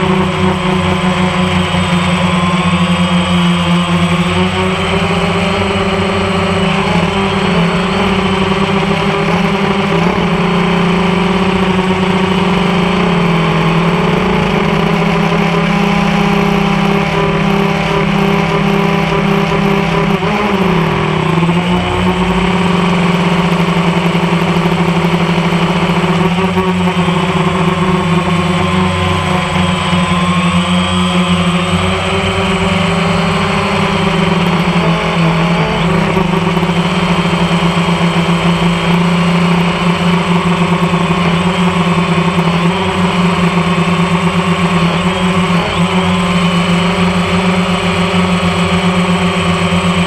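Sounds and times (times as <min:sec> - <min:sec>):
drone propellers humming: 0:00.0 - 0:50.0.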